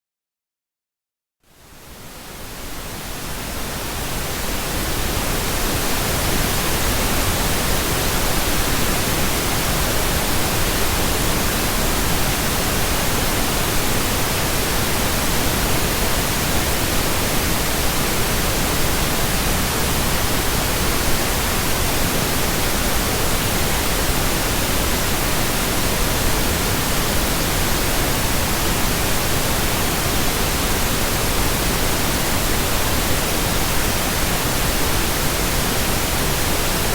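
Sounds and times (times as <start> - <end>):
pink noise hiss: 1.5 - 36.9.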